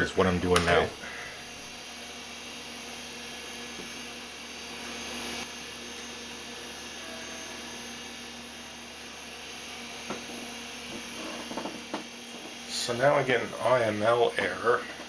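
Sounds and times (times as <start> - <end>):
computer fans whirring: 0.0 - 5.5, 6.6 - 15.0.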